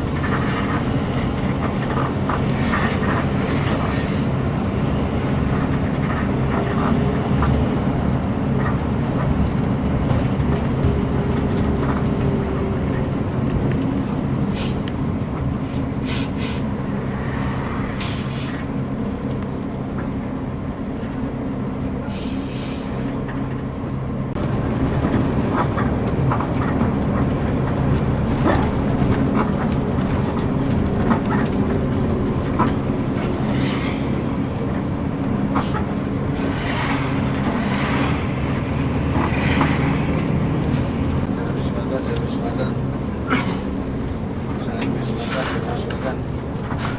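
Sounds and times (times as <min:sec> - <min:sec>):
rattles and clicks in cabin: 0:00.0 - 0:16.6, 0:23.1 - 0:36.6, 0:38.5 - 0:46.9
coach engine drone: 0:00.0 - 0:46.9
road rumble: 0:00.0 - 0:46.9.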